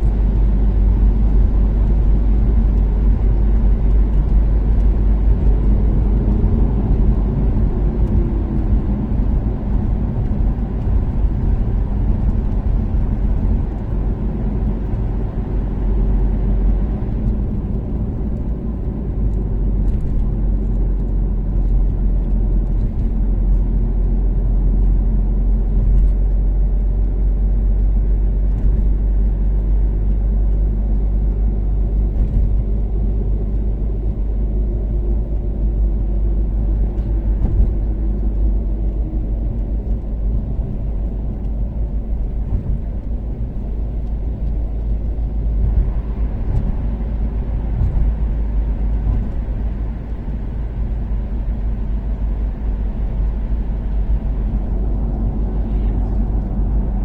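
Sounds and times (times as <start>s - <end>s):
car engine cruising: 0.0s - 57.0s
road noise: 0.0s - 57.0s.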